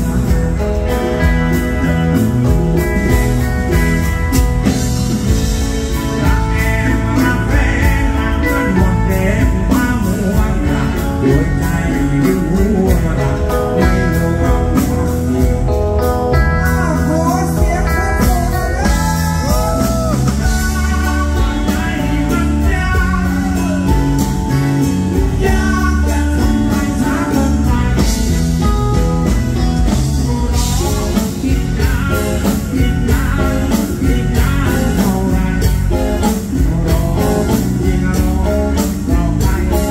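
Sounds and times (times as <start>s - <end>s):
live rock band playing: 0.0s - 39.9s
man singing: 0.0s - 39.9s.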